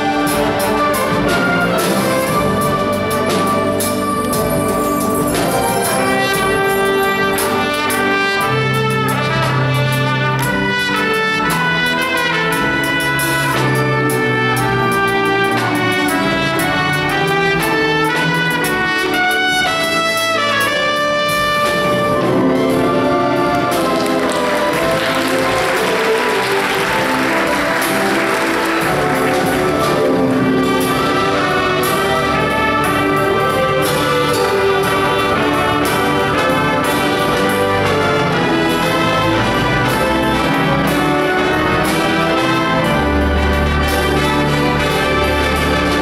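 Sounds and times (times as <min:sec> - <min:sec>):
brass section: 0:00.0 - 0:46.0
orchestra playing: 0:00.0 - 0:46.0.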